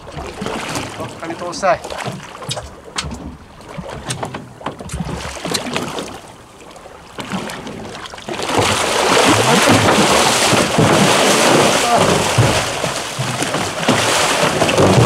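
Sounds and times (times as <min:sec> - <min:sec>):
knocks and clatter on boat: 0:00.0 - 0:15.0.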